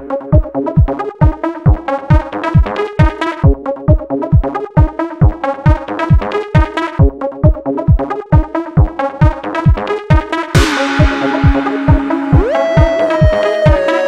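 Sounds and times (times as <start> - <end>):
deep kick drum: 0.0 - 13.9
synthesizer melody: 0.0 - 14.0.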